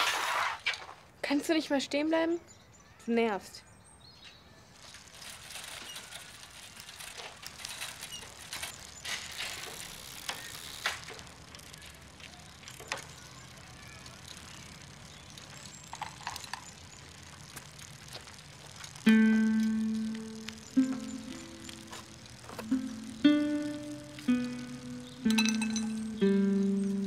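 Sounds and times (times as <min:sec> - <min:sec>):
bicycle riding on pavement: 0:00.0 - 0:01.1, 0:03.7 - 0:27.0
bike clicks and rattles: 0:04.2 - 0:27.0.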